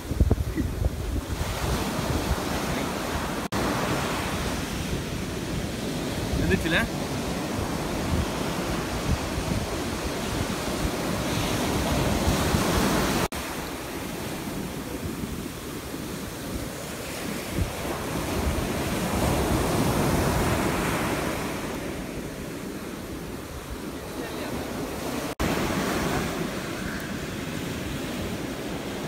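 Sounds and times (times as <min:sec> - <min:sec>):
ocean surf breaking: 0:00.0 - 0:29.0
wind on microphone: 0:00.0 - 0:29.0.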